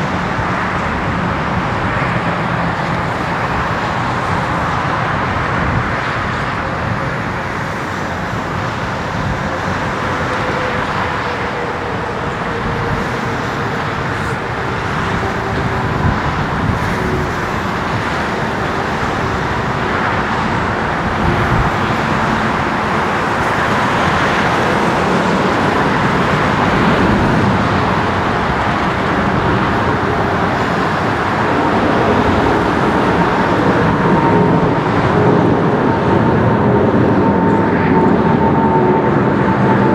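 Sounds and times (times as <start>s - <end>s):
jet engines: 0.0s - 39.9s
road traffic noise: 0.0s - 39.9s.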